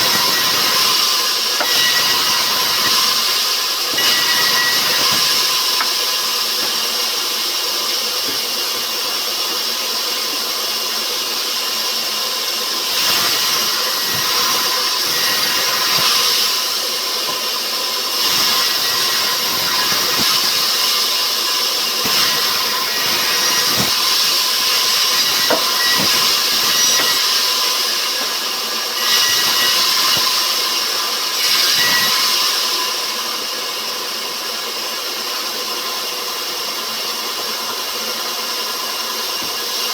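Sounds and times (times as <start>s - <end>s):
sawmill machinery hissing: 0.0s - 33.5s.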